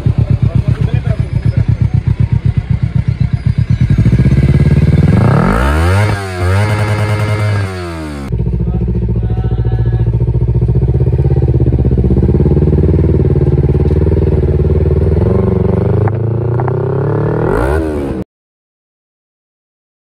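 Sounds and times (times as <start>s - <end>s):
motorcycle engine idling: 0.0s - 17.2s.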